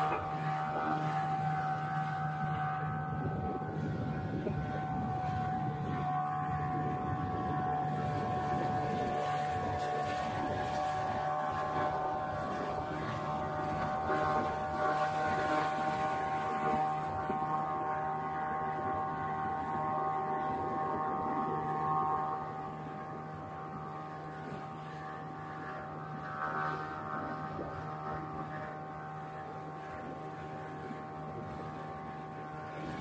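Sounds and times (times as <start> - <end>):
motorboat engine droning: 0.0 - 33.0.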